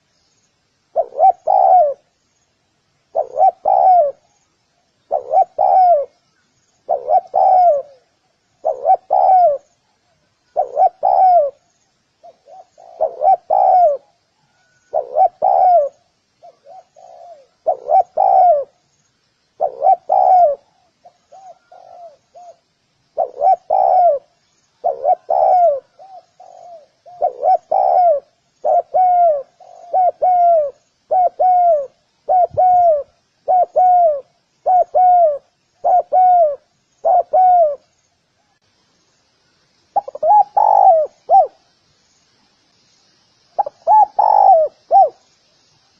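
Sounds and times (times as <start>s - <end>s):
dove cooing: 0.9s - 2.1s, 3.1s - 4.4s, 5.0s - 6.2s, 6.8s - 18.8s, 19.6s - 37.9s, 40.0s - 41.7s, 43.6s - 45.3s.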